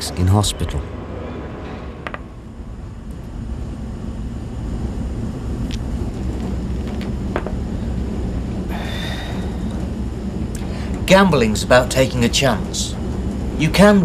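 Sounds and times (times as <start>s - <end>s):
high steady whine: 0.0s - 14.0s
low machinery rumble: 0.0s - 14.0s.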